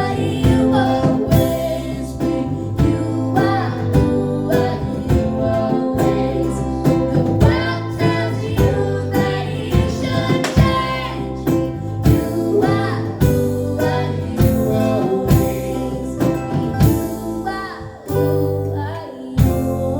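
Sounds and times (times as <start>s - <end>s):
acoustic string band music: 0.0s - 19.9s.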